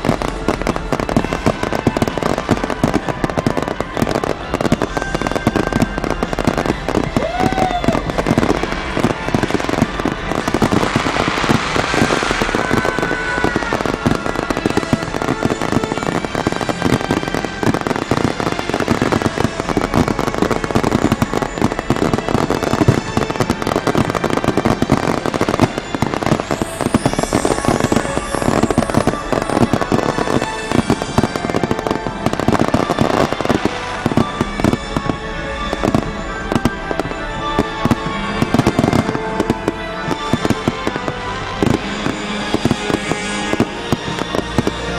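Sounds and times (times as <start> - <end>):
fireworks bangs and crackling: 0.0 - 44.9
whistling rockets: 0.0 - 44.9.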